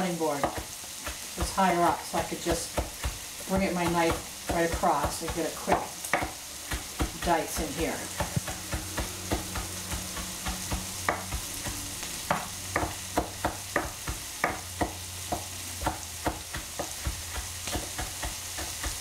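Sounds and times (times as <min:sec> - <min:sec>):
steady hiss: 0:00.0 - 0:19.0
knife chopping on wooden board: 0:02.7 - 0:19.0.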